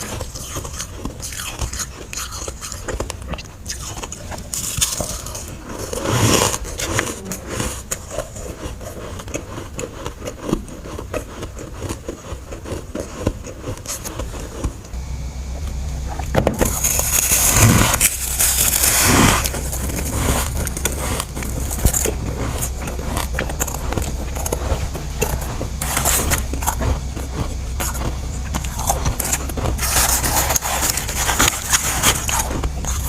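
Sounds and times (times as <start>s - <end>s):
frost scraped and crunched: 3.7s - 15.0s, 15.7s - 33.0s.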